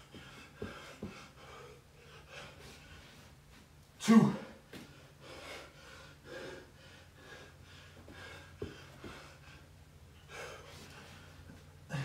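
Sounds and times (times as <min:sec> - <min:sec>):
man breathing hard: 0:00.0 - 0:03.4, 0:04.4 - 0:12.0.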